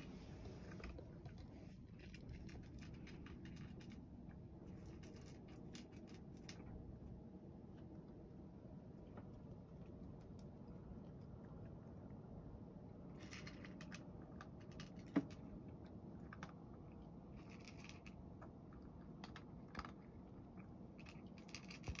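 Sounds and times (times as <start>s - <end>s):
cat crunching food: 0.6s - 6.8s, 8.9s - 22.0s.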